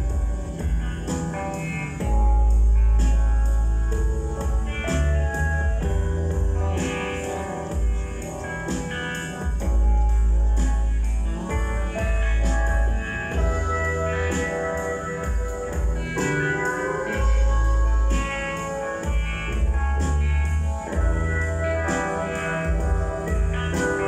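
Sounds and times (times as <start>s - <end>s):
held bass notes: 0.0s - 24.0s
rock music: 0.0s - 24.0s.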